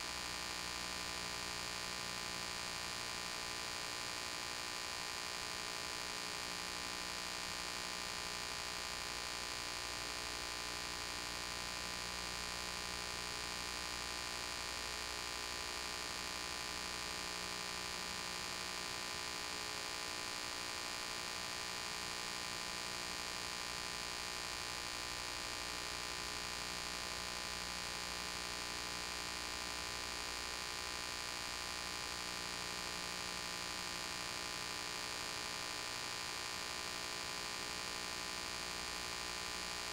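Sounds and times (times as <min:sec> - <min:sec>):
electrical hum with hiss: 0:00.0 - 0:39.9.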